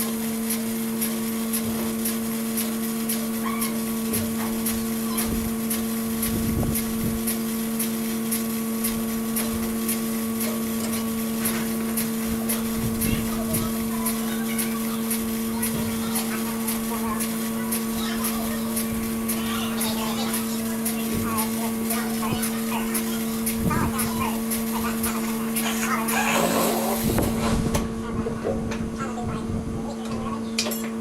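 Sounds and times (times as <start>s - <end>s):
electric machine hum: 0.0s - 31.0s.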